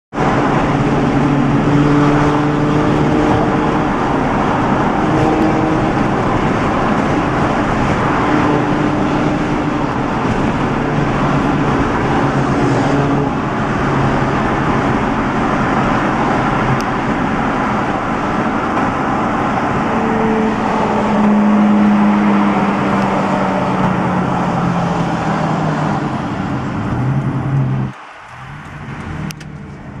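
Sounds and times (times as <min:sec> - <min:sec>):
road and traffic noise: 0:00.1 - 0:30.0
sports car engine revving: 0:00.2 - 0:27.9.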